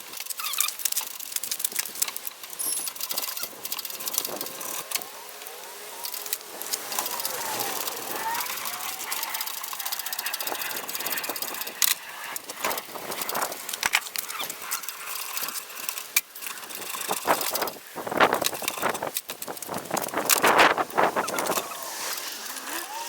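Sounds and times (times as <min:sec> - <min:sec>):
hand tools and steel parts clinking: 0:00.0 - 0:23.0.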